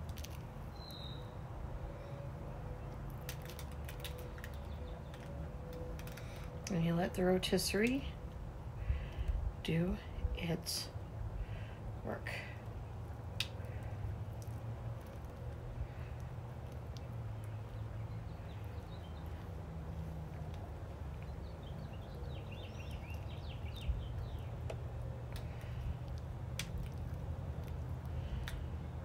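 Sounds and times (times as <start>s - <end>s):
birds chirping: 0.7s - 26.3s.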